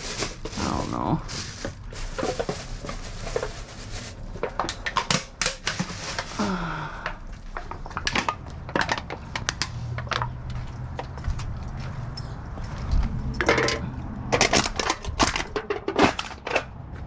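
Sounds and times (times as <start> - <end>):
trash rummaged in a dumpster: 0.0 - 10.4, 13.3 - 17.0.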